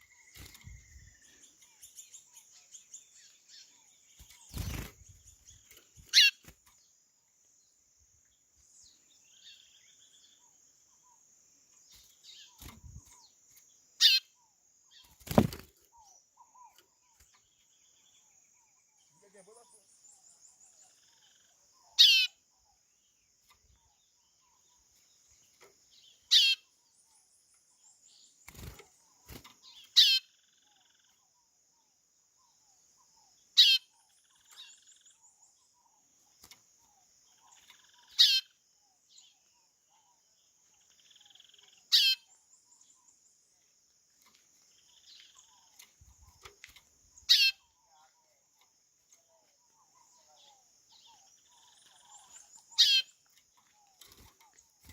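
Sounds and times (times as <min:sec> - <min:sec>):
high insect hum: 0:00.0 - 0:54.9.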